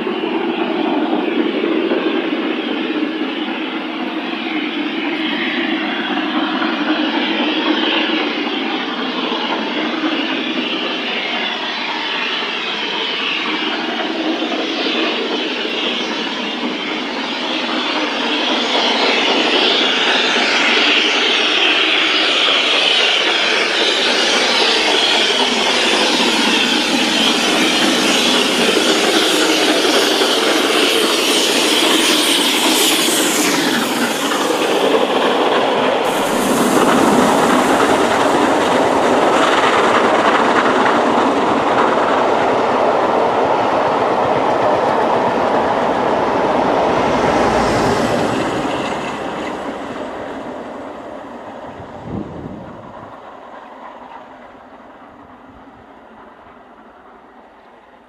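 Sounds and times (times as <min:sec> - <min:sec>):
high-pitched steam noise: 0:00.0 - 0:55.0
wheels clacking on rails: 0:00.0 - 0:57.9
steam locomotive exhaust: 0:00.0 - 0:58.0.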